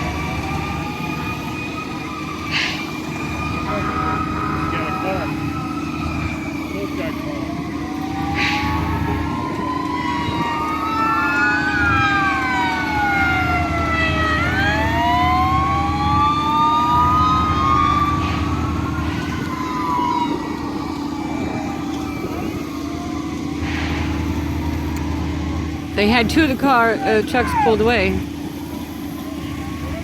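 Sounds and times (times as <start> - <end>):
fire truck sirens wailing: 0.0 - 30.0
low engine rumble: 0.0 - 30.0.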